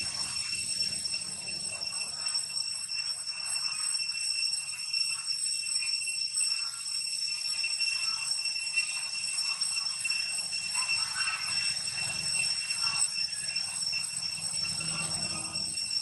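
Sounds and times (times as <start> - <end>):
shrill insect chorus: 0.0 - 16.0.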